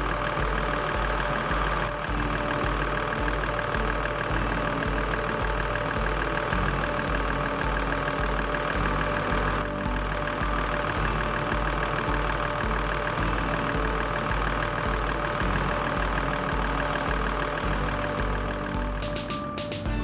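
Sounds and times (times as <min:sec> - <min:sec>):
car engine idling: 0:00.0 - 0:19.8.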